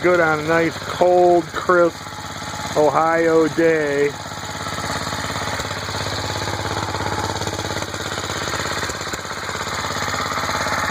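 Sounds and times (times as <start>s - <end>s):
small engine running: 0.0s - 10.9s.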